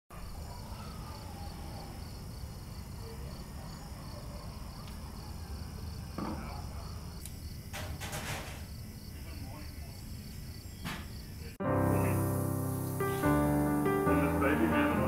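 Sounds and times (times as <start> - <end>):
crickets chirping: 0.1 - 15.0.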